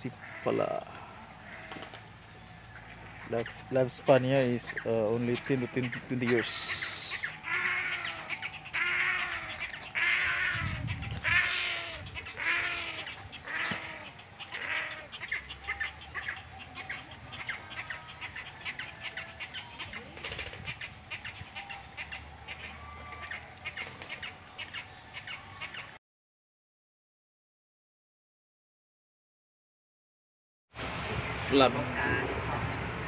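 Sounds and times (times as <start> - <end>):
waterbirds calling: 0.0 - 26.0, 30.8 - 33.0.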